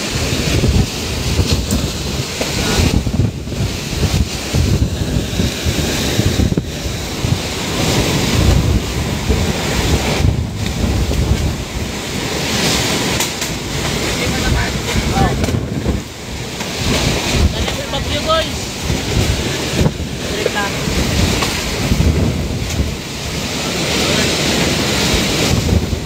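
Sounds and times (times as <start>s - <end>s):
strong wind blowing: 0.0s - 26.0s
wind buffeting microphone: 0.0s - 26.0s
wind-driven rain: 0.0s - 26.0s.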